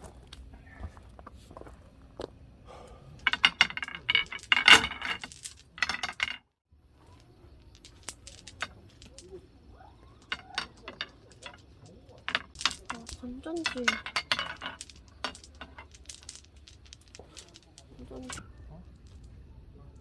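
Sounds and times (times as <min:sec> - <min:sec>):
small metal objects clinking: 0:03.2 - 0:06.4, 0:07.0 - 0:20.0.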